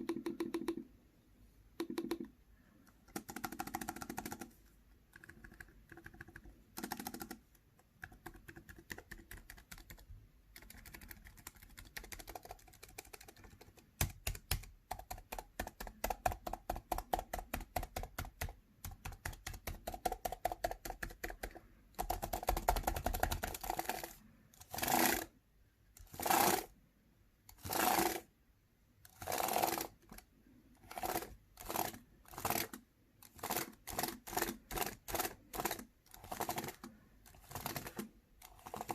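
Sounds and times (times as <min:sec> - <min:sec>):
typing on computer keyboard: 0:00.0 - 0:00.9, 0:01.8 - 0:02.3, 0:02.9 - 0:25.3, 0:29.1 - 0:38.9.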